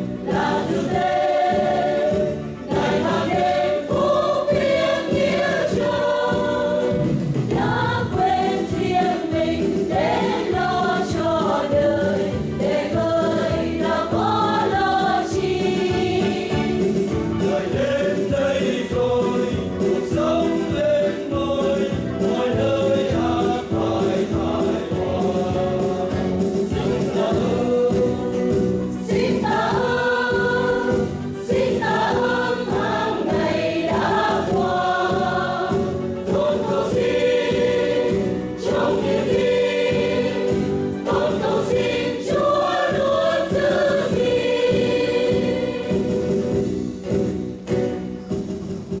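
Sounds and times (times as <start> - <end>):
church choir singing a hymn: 0.0 - 46.7.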